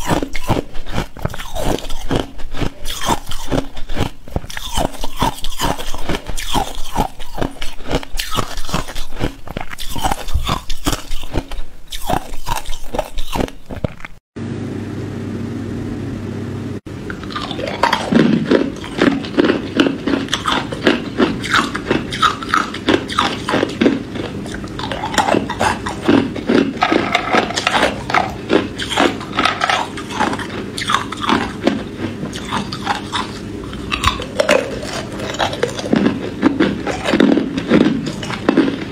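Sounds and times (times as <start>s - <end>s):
ice cubes being crunched: 0.0s - 14.2s, 17.2s - 38.9s
slushy ice being chewed: 0.0s - 14.2s, 17.1s - 38.9s.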